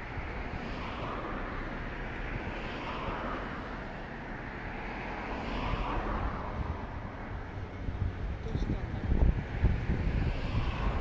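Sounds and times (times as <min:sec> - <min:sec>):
traffic passing: 0:00.0 - 0:11.0
wind rumble on microphone: 0:00.0 - 0:11.0.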